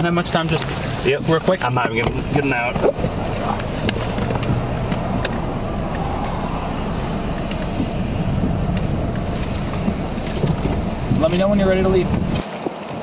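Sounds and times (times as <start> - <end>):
low roar of tornado wind: 0.0 - 13.0
car passing on wet road: 0.4 - 12.4.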